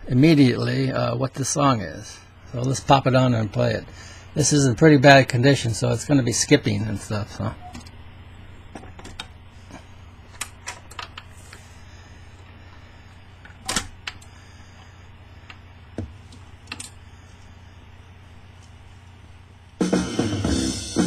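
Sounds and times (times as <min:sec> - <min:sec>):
record changer motor hum: 0:00.0 - 0:21.0.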